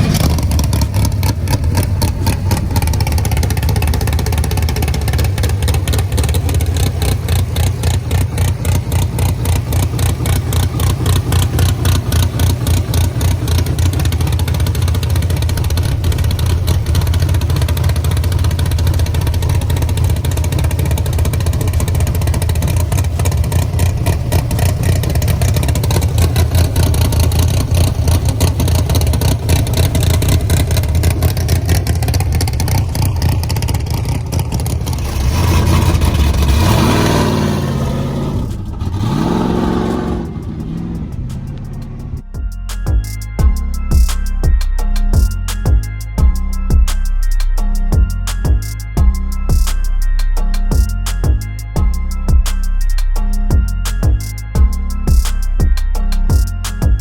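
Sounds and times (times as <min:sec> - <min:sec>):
truck engine running loud: 0:00.0 - 0:57.0.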